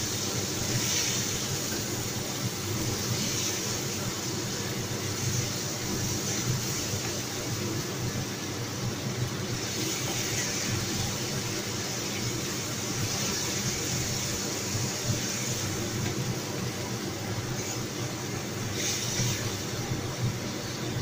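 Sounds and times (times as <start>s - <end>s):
food sizzling in a wok: 0.0s - 21.0s.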